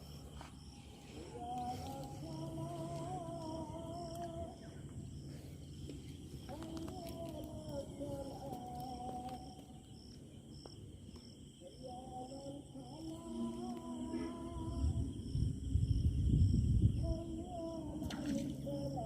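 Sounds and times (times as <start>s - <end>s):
wordless humming melody: 0.0s - 10.5s, 11.5s - 19.0s.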